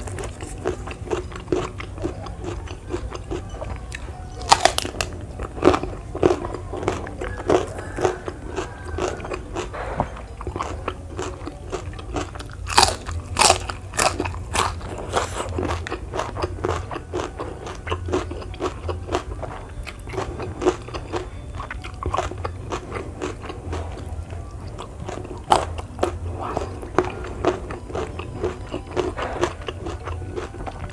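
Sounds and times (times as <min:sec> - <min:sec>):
crunchy vegetables being chewed: 0:00.0 - 0:30.9.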